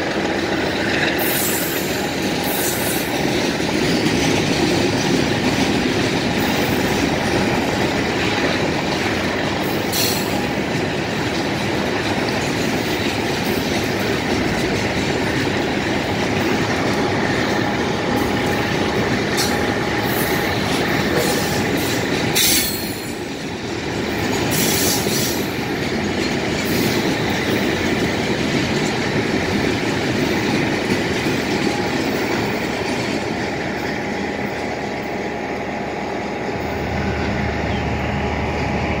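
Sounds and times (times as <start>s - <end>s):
steel wheels rumbling on rails: 0.0s - 39.0s.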